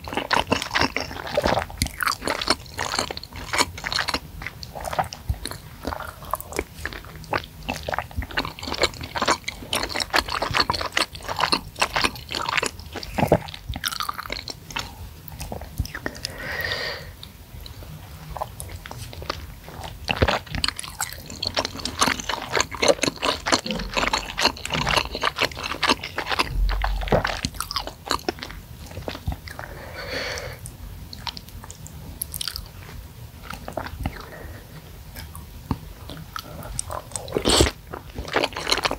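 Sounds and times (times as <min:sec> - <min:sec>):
wet chewing and smacking: 0:00.0 - 0:16.4, 0:17.6 - 0:29.7, 0:30.6 - 0:34.4, 0:35.1 - 0:38.9.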